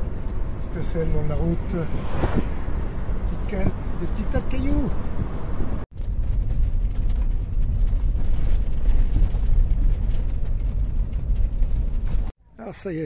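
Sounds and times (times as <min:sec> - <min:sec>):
engine and road rumble in cab: 0:00.0 - 0:12.7.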